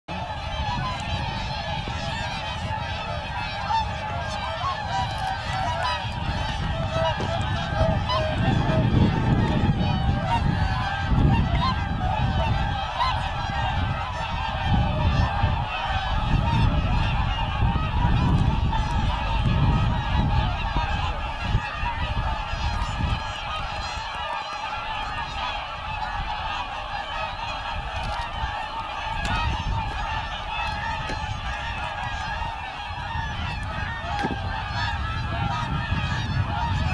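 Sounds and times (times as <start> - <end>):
swans honking and bugling: 0.1 - 36.9
wind rumbling on microphone: 0.1 - 36.9.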